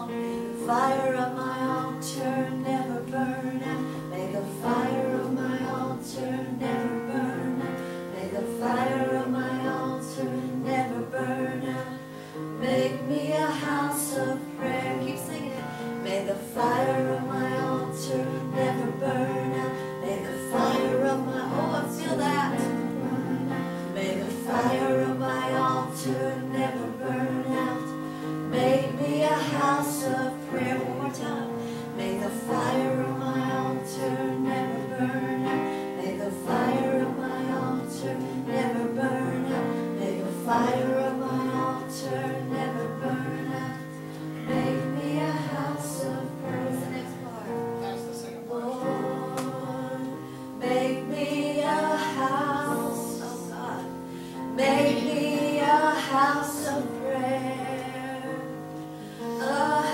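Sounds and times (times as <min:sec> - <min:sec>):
woman singing with vibrato: 0:00.0 - 0:58.4
sustained keyboard chords: 0:00.0 - 0:59.9.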